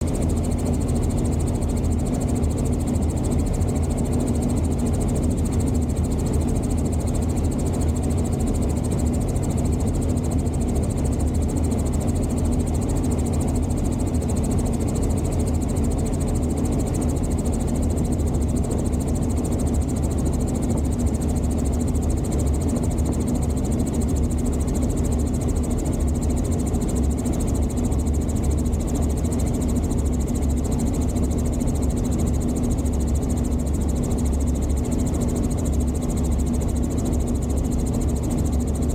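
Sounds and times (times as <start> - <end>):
helicopter rotor drone: 0.0 - 38.9.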